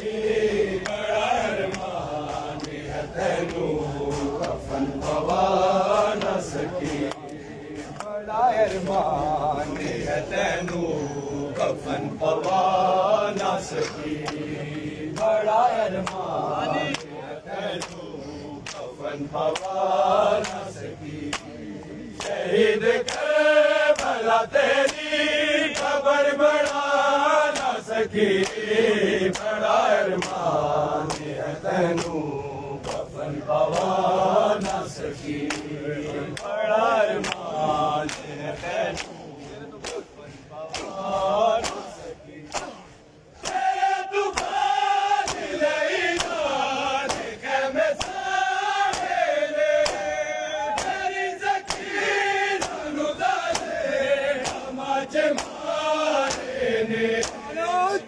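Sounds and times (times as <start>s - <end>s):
men chanting in unison: 0.0s - 58.0s
hands slapping chests: 0.8s - 10.8s, 11.5s - 19.8s, 20.4s - 22.4s, 23.0s - 28.7s, 29.3s - 32.2s, 32.8s - 33.1s, 34.6s - 36.6s, 37.2s - 53.8s, 54.4s - 56.6s, 57.2s - 58.0s.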